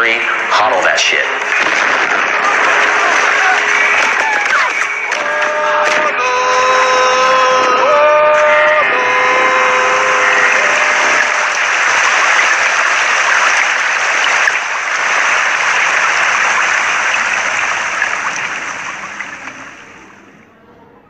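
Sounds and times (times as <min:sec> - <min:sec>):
dense crackling noise: 0:00.0 - 0:20.6.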